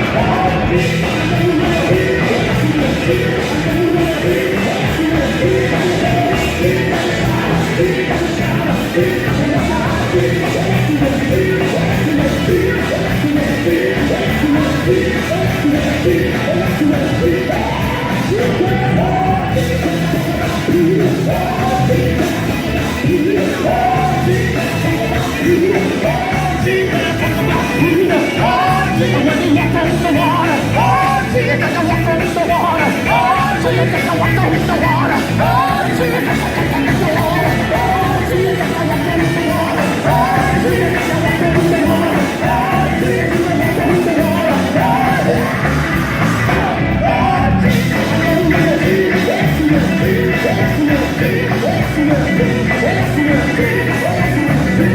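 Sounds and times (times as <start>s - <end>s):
band accompaniment: 0.0s - 54.9s
gospel quartet singing: 0.0s - 54.9s.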